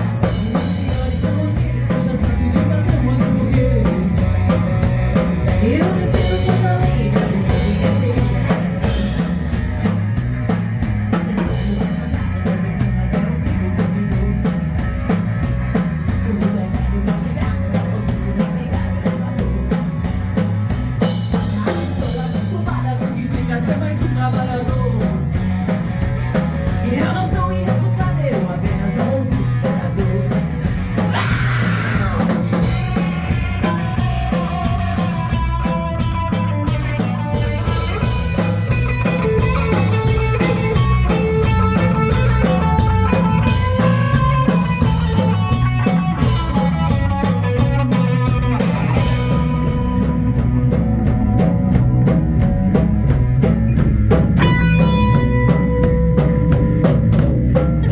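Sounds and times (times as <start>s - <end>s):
drum kit steady beat: 0.0s - 57.9s
electric guitar: 0.0s - 57.9s
heavy bass line: 0.0s - 57.9s
rock band playing live: 0.0s - 57.9s.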